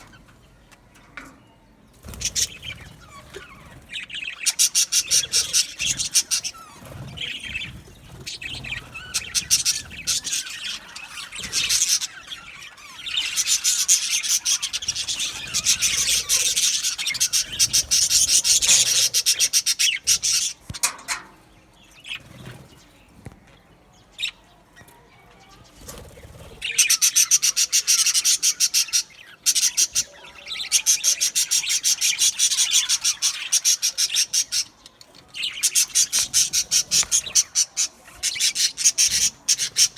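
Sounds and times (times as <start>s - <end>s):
budgerigars chirping and chattering: 2.0s - 39.9s.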